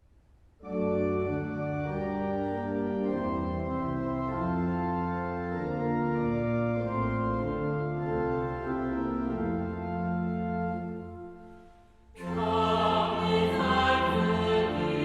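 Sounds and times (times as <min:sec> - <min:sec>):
organ playing sustained chords: 0:00.6 - 0:15.0.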